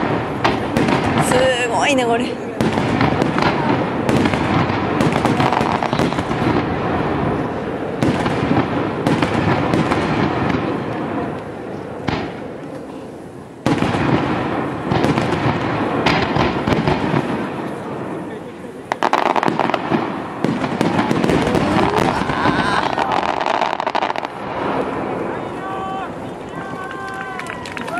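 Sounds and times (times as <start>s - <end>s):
fireworks booming and crackling: 0.0s - 27.9s.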